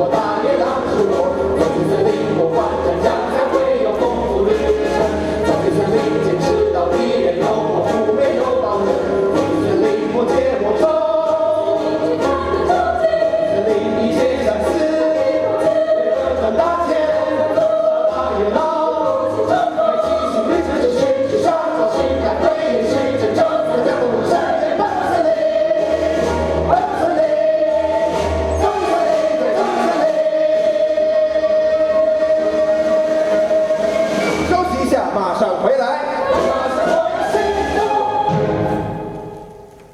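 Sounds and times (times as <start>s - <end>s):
chorus singing: 0.0s - 39.4s.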